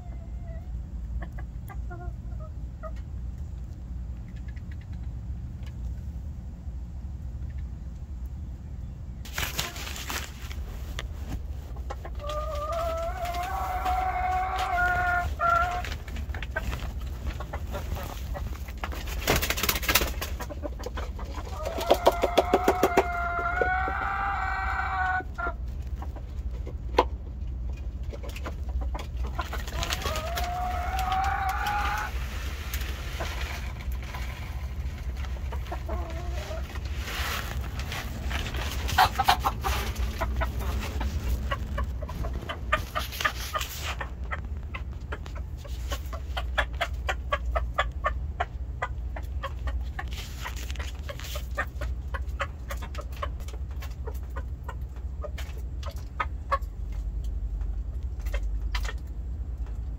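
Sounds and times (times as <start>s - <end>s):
chickens clucking: 0.0s - 6.2s, 7.2s - 59.9s.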